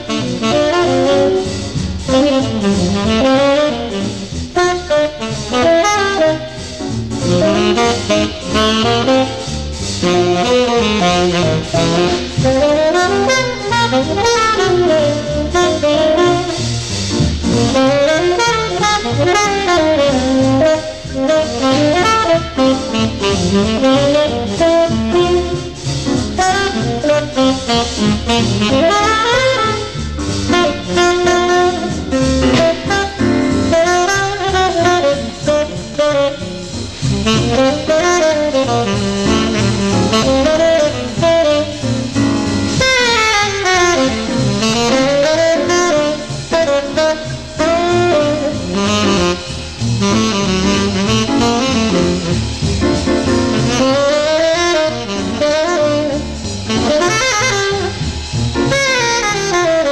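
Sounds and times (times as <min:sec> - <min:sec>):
background jazz music: 0:00.0 - 0:59.9
saxophone melody: 0:00.0 - 0:59.9.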